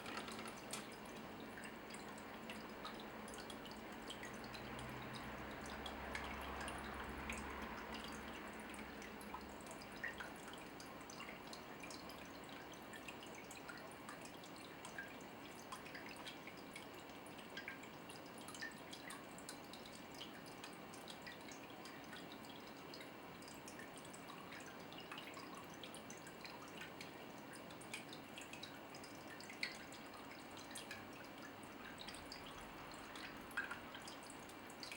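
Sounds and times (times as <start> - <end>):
soft water trickle: 0.0 - 34.9
water dripping: 0.0 - 34.9.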